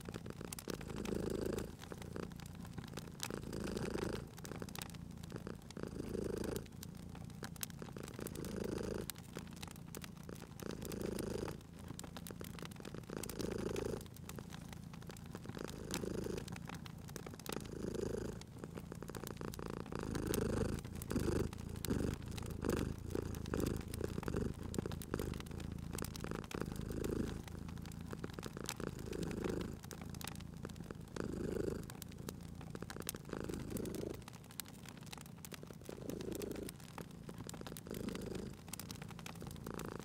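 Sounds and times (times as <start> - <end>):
cat purring: 0.0 - 40.0
wood fire crackling: 0.0 - 40.0.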